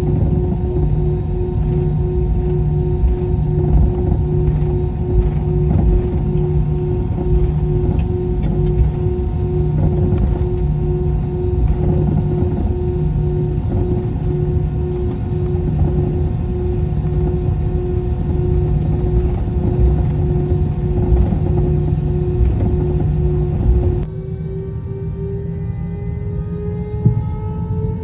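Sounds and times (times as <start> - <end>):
constant hum tone: 0.0 - 28.0
jet engine and airflow rumble: 0.0 - 28.0.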